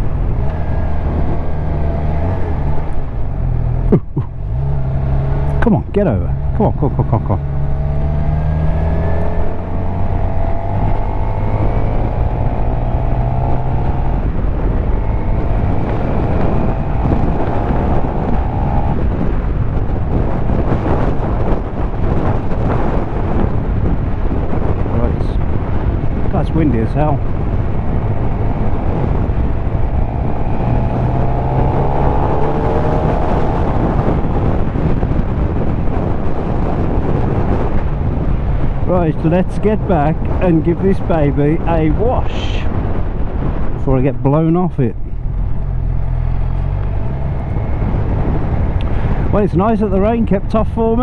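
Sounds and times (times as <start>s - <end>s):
motorcycle engine accelerating: 0.0s - 43.9s, 44.8s - 50.0s
wind buffeting microphone: 0.0s - 51.0s.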